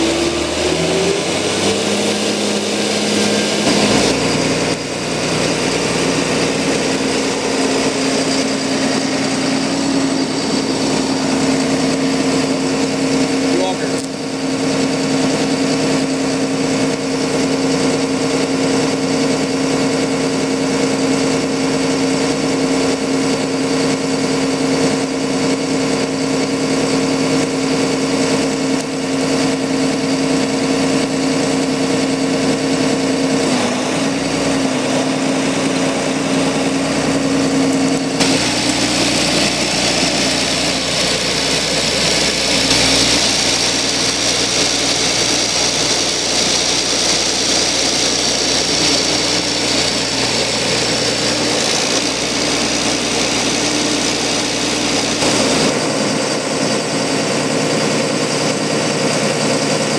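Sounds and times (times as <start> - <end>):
diesel engine idling: 0.0 - 59.9
high whine: 0.0 - 59.9.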